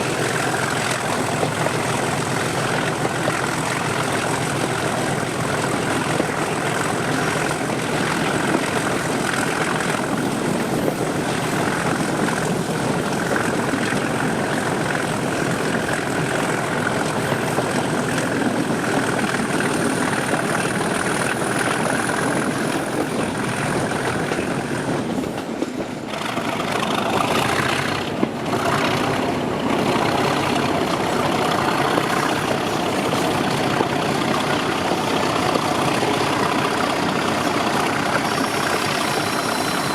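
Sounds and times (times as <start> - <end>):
diesel locomotive engine: 0.0 - 39.9.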